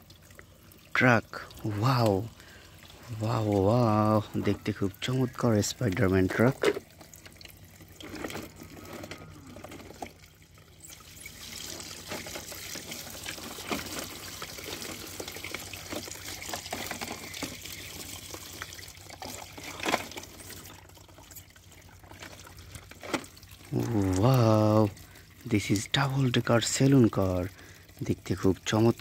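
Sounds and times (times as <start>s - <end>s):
tap water pouring into bucket: 0.0s - 29.0s.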